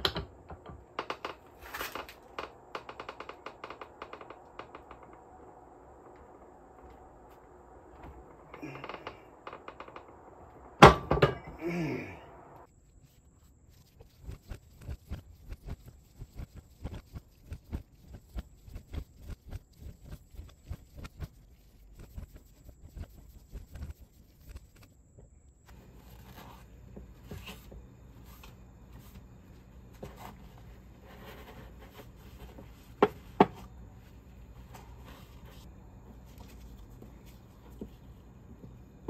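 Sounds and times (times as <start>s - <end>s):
steady low hum: 2.0s - 39.0s.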